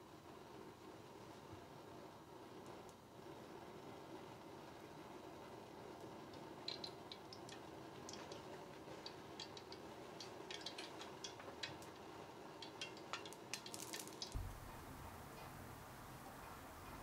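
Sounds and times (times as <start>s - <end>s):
faint steady hum: 0.0s - 17.0s
oil crackling in a wok: 0.2s - 17.0s.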